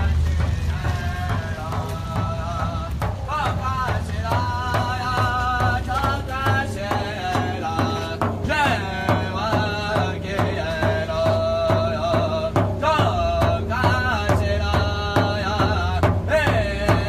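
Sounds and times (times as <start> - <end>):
large drum beating: 0.0 - 17.0
voices singing: 0.0 - 17.0.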